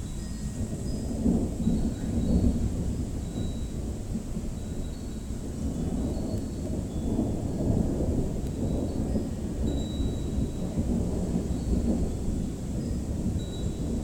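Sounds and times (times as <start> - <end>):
thunder rumbling: 0.5 - 4.6, 5.6 - 14.0.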